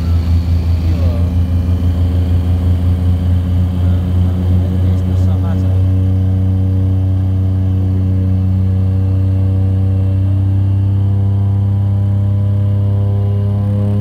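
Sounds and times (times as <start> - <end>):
turboprop engine drone in cabin: 0.0 - 14.0.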